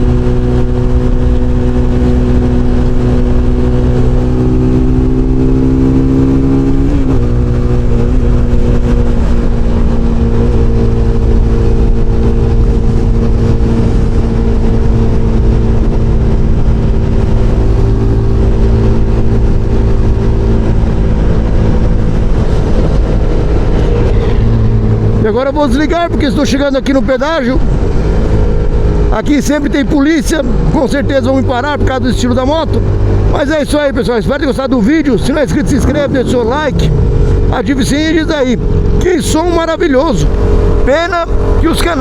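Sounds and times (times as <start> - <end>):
wind rushing: 0.0 - 32.0, 32.8 - 42.0
motorcycle engine cruising: 0.0 - 42.0.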